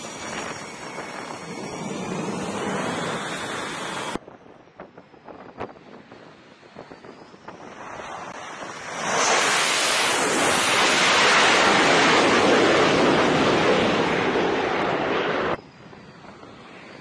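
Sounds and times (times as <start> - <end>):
fighter jet engines roaring: 0.0 - 17.0.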